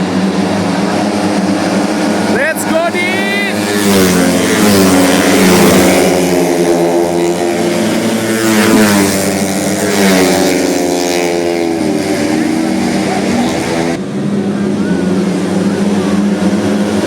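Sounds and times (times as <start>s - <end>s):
scooter engines racing: 0.0s - 17.0s.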